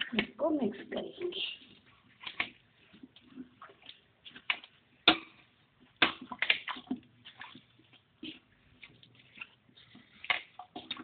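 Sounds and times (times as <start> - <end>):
mango pieces mixed by hand: 0.0 - 11.0.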